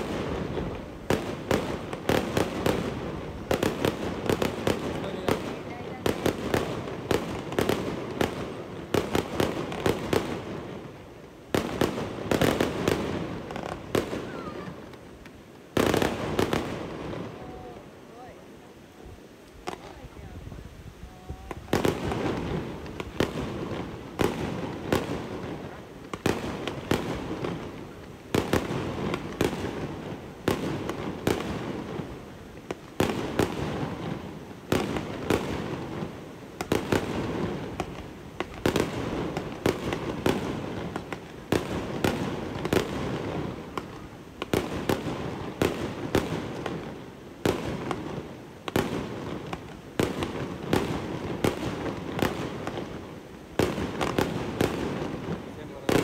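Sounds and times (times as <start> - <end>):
fireworks launching and bursting: 0.0 - 20.4, 21.1 - 56.0.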